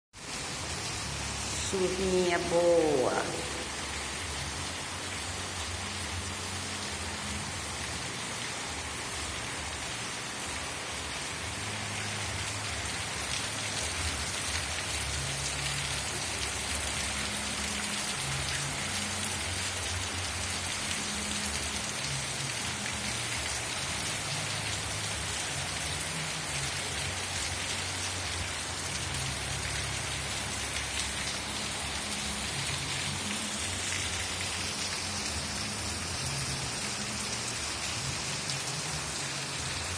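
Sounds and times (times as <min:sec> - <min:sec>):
steady rain falling: 0:00.2 - 0:39.9.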